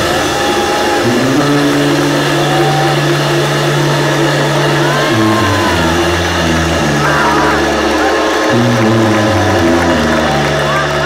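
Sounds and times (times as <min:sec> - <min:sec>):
low bass note: 0:00.0 - 0:11.0.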